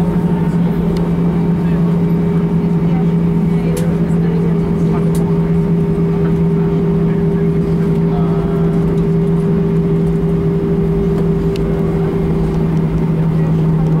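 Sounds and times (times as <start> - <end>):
aircraft cabin hum: 0.0 - 14.0
low rumble of aircraft rolling: 0.0 - 14.0.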